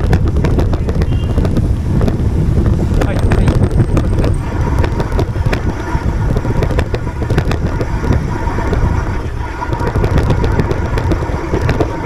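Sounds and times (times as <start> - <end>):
bicycle clicks and rattles: 0.0 - 12.0
wind buffeting microphone: 0.0 - 12.0.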